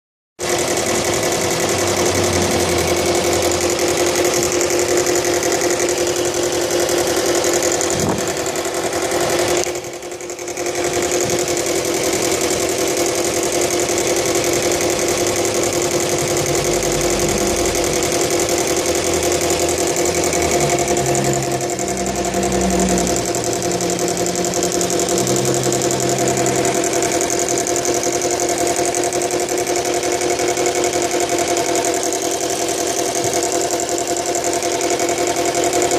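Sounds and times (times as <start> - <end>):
car engine running with a rattle: 0.4 - 35.9.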